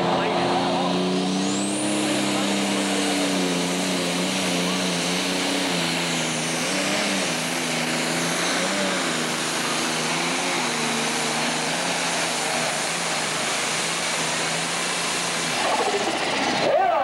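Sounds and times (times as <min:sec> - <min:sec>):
diesel tractor engine under load: 0:00.0 - 0:16.9.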